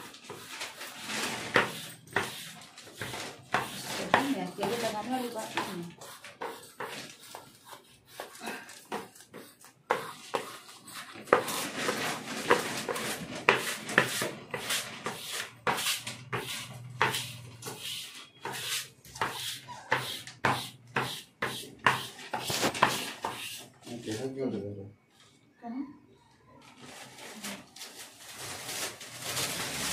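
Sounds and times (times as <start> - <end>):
plastic squeegee scraping sheet: 0.0 - 7.6, 9.9 - 20.8, 21.5 - 24.4, 26.8 - 29.9.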